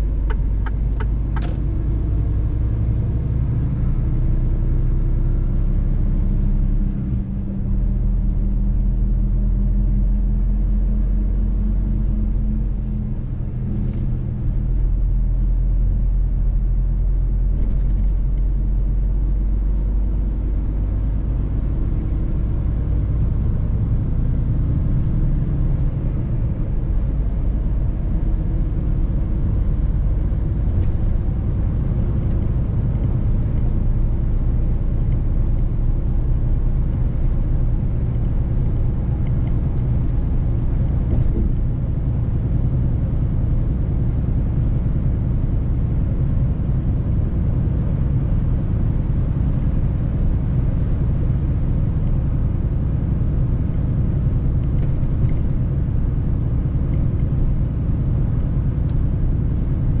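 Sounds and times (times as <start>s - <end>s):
road noise: 0.0s - 60.0s.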